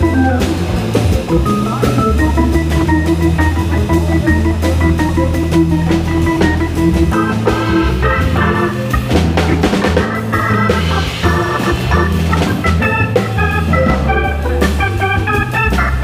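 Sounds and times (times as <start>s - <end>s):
drum kit: 0.0s - 16.0s
low bass notes: 0.0s - 16.0s
organ playing runs and chords: 0.0s - 16.0s.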